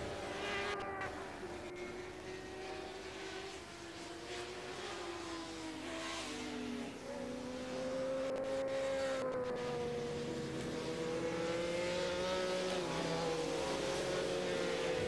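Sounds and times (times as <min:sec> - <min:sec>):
racing motorcycle engines at high revs: 0:00.0 - 0:15.0.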